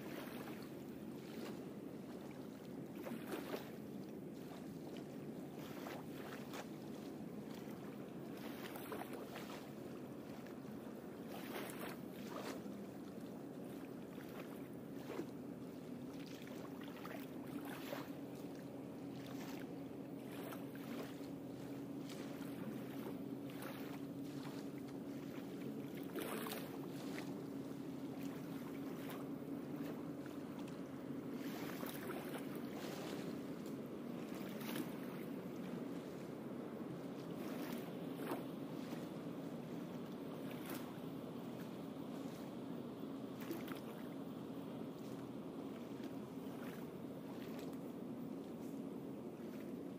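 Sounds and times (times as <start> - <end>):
faint motor hum: 0.0 - 49.9
open-air noise: 0.0 - 49.9.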